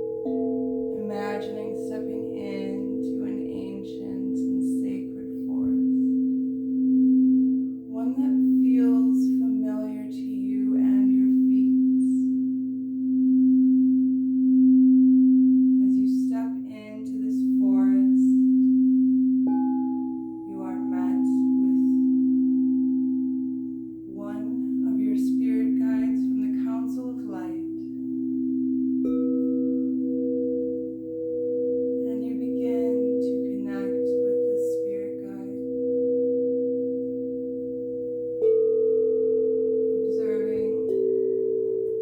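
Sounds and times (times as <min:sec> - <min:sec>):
singing bowl humming: 0:00.0 - 0:42.0.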